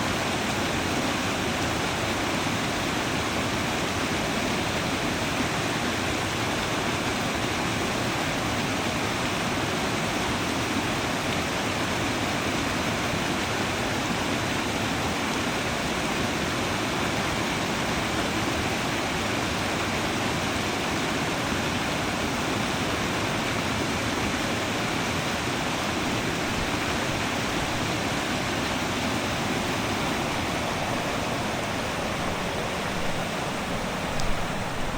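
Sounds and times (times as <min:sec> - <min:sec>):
creek water rushing: 0:00.0 - 0:34.9.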